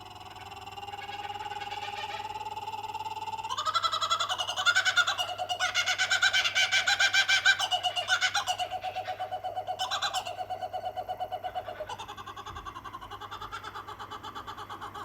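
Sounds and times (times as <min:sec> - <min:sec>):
kookaburras calling: 0:00.0 - 0:15.0.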